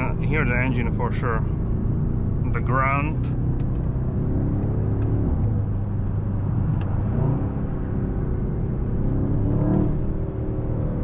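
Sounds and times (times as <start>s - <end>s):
car engine low grunt: 0.0s - 11.0s
engine sound through speakers: 0.0s - 11.0s.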